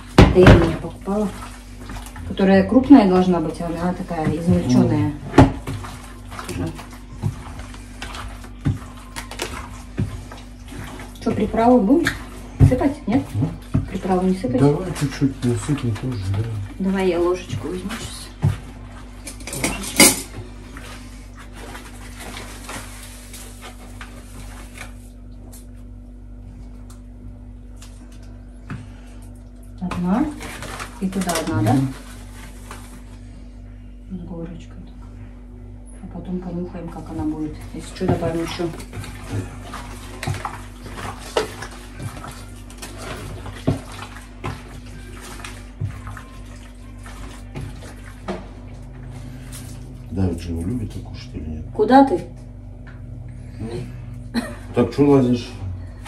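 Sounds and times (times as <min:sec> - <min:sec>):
water sloshing: 0:00.0 - 0:33.6, 0:35.9 - 0:56.0
steady low hum: 0:00.0 - 0:56.0.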